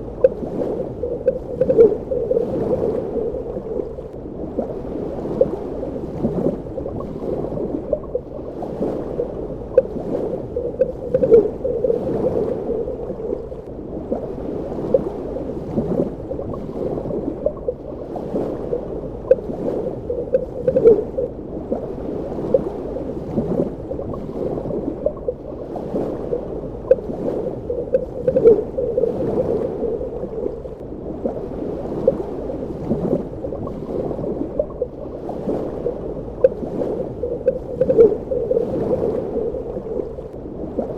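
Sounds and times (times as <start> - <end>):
bubbling gurgles and pops: 0.0 - 40.9
muffled underwater water movement: 0.0 - 40.9.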